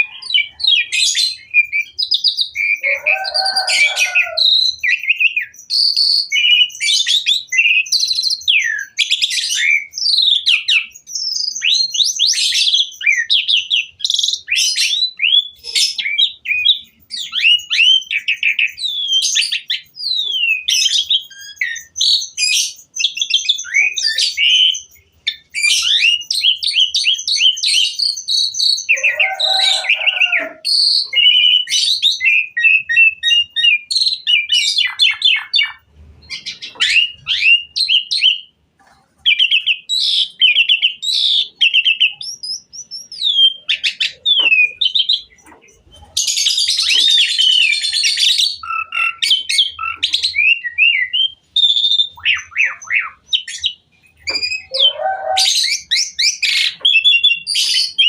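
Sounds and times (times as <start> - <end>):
starling singing whistles and trills: 0.0 - 58.0.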